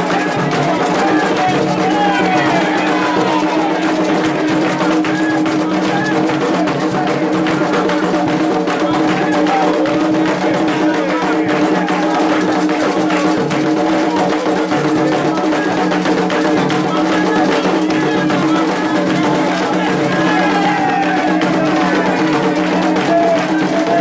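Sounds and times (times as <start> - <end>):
drums and percussion: 0.0 - 24.0
voices singing: 0.0 - 24.0.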